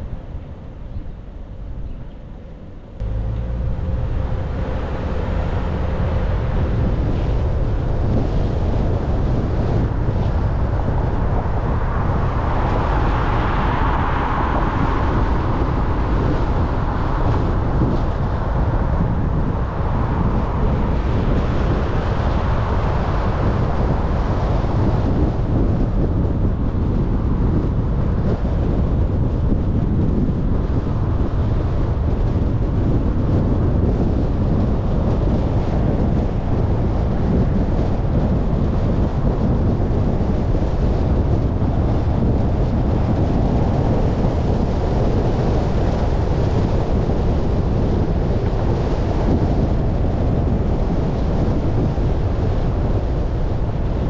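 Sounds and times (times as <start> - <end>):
car tyre and road noise: 0.0 - 54.0
wind on microphone: 0.0 - 54.0.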